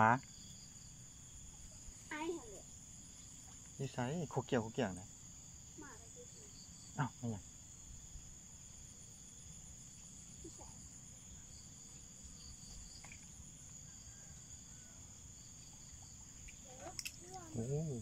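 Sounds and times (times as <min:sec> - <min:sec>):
fast pulsing insect trill: 0:00.0 - 0:18.0
insects trilling: 0:00.0 - 0:18.0.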